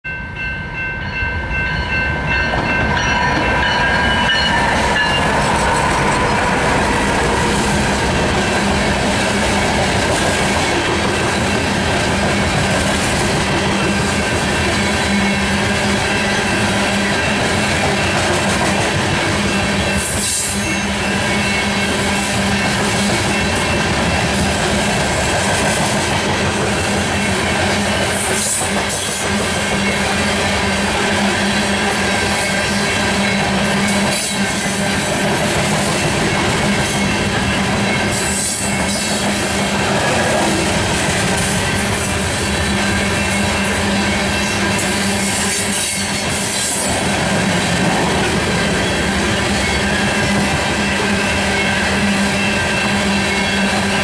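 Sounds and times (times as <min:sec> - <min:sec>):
freight cars rumbling on rails: 0:01.8 - 0:54.0.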